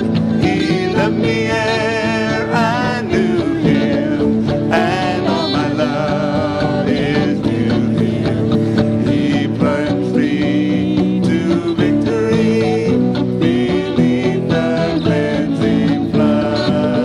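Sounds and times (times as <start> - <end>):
women singing lead: 0.0 - 17.0
worship band playing country song: 0.0 - 17.0.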